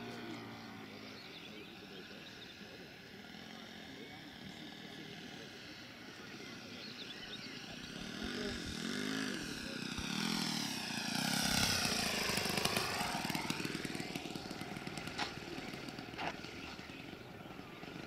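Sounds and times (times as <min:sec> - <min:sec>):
model airplane engine and propeller: 0:00.0 - 0:18.0.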